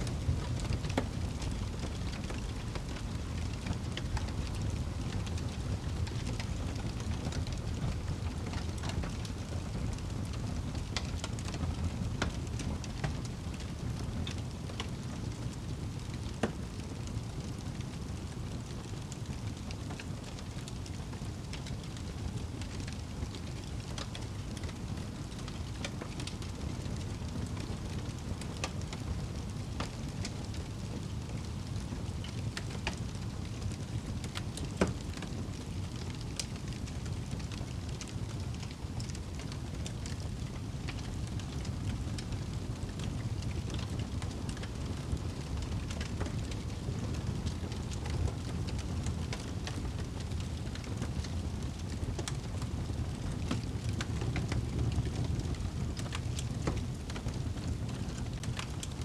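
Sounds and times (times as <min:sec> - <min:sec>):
fireplace crackling: 0:00.0 - 0:59.0.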